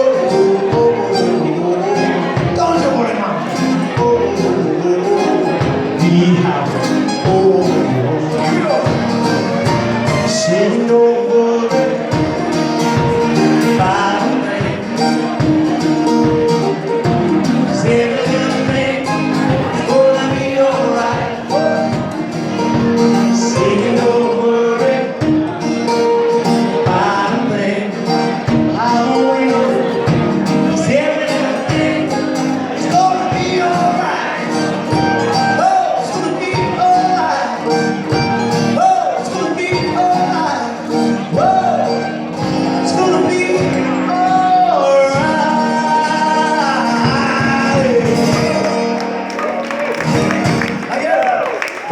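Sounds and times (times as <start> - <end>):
live band playing upbeat song: 0.0 - 51.9
person singing: 0.0 - 51.9.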